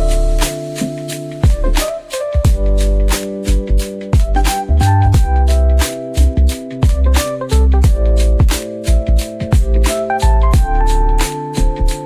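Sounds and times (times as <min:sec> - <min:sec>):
deep bass: 0:00.0 - 0:00.5, 0:01.4 - 0:12.0
drums: 0:00.0 - 0:12.0
sustained keyboard chords: 0:00.0 - 0:12.0.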